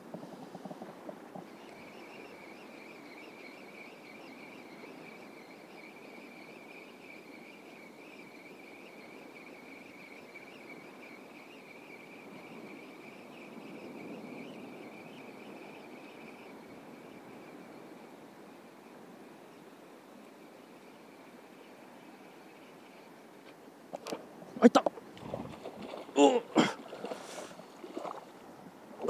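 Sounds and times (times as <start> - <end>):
wind and water hiss: 0.0 - 29.0.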